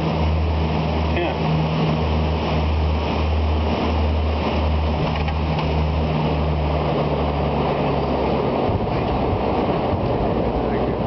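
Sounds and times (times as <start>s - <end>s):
propeller drone: 0.0s - 11.0s
rush of airflow: 0.0s - 11.0s
wheel rumble: 0.0s - 11.0s.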